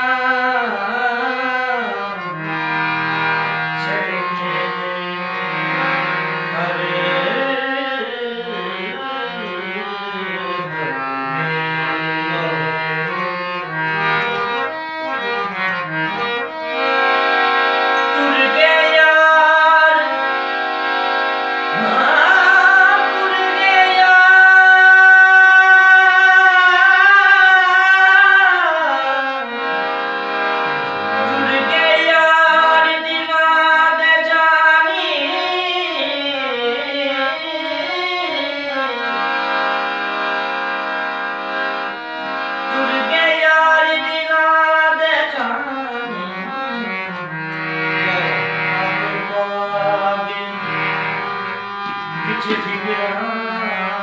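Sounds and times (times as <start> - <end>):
man singing ornamented melody: 0.0 - 2.4, 3.4 - 17.3, 17.9 - 20.5, 21.7 - 29.7, 30.6 - 39.2, 42.7 - 47.3, 48.0 - 54.0
harmonium reed tones: 0.0 - 54.0.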